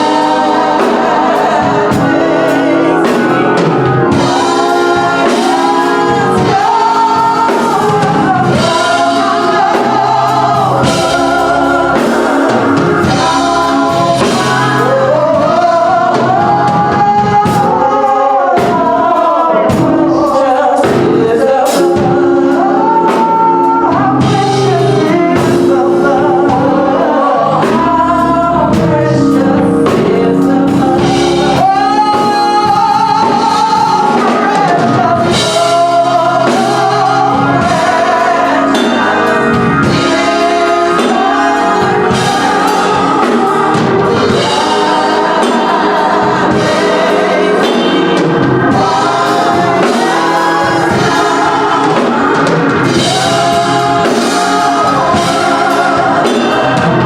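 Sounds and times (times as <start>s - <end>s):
choir singing gospel: 0.0s - 57.0s
drums: 0.0s - 57.0s
keyboard: 0.0s - 57.0s.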